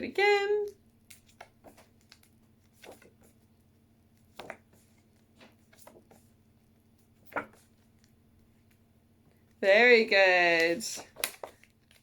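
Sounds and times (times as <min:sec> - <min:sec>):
paper flashcards being shuffled: 0:00.6 - 0:08.8, 0:10.5 - 0:12.0.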